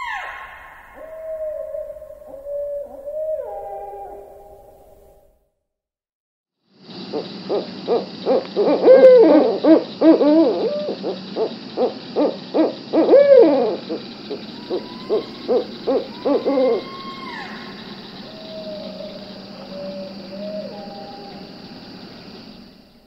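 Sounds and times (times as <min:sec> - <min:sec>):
owls hooting: 0:00.0 - 0:04.9, 0:07.1 - 0:21.5
steady background hiss: 0:00.0 - 0:05.3, 0:06.6 - 0:23.0.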